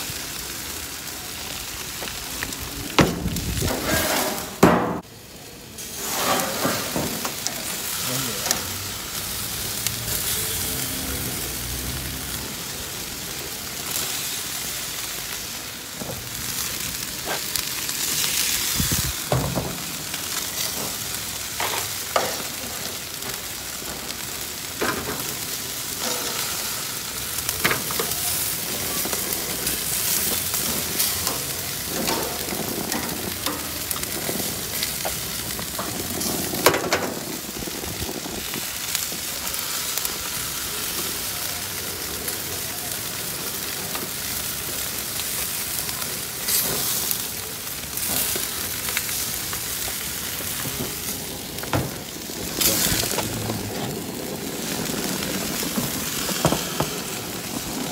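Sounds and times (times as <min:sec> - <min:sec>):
meat sizzling on a grill: 0:00.0 - 0:57.9.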